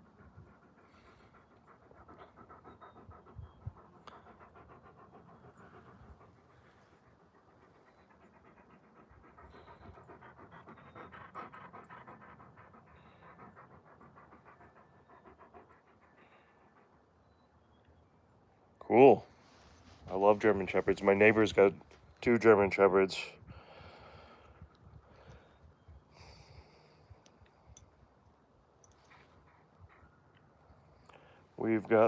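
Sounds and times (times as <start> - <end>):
dog panting: 0.0 - 32.0.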